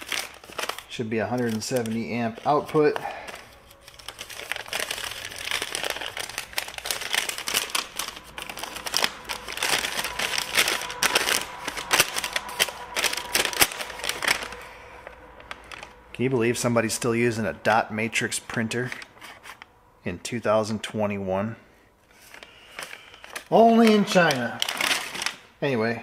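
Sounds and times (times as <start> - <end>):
packaging crinkling and rustling: 0.0 - 19.7, 22.1 - 25.6.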